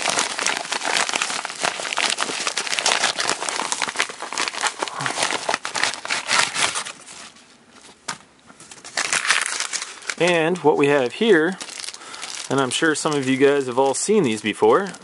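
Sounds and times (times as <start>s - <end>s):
paper mailer crinkling and rustling: 0.0s - 8.0s, 8.6s - 15.0s.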